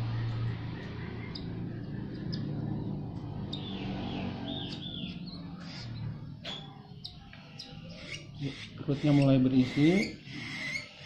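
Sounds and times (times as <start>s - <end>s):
bird chick begging chirps: 0.2s - 11.0s.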